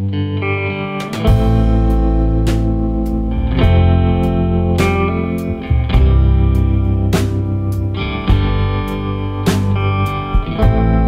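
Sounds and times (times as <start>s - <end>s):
guitar tune: 0.0s - 11.0s
bass line with steady beat: 1.0s - 11.0s.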